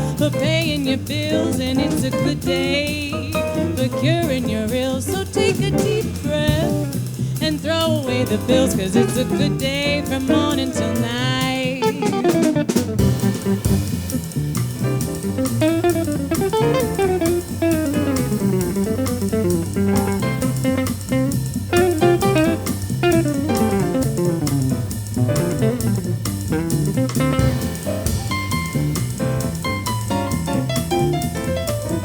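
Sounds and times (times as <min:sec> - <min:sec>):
bass: 0:00.0 - 0:32.0
drum kit: 0:00.0 - 0:32.0
jazz guitar solo: 0:00.0 - 0:32.0.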